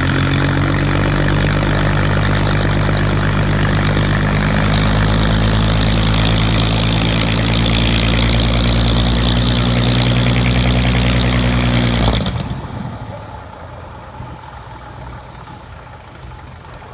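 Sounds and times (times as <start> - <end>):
propeller winding down: 0.0 - 16.9.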